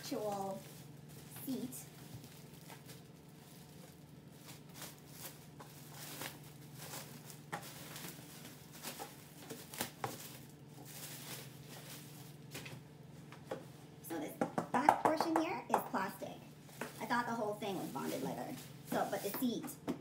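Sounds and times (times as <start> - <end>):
plastic wrapping crinkling: 0.0 - 13.3, 16.6 - 19.6
steady low hum: 0.0 - 20.0.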